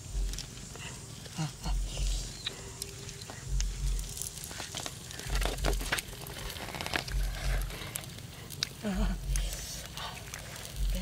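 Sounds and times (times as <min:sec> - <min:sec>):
small clicks and crackles: 0:02.0 - 0:11.0.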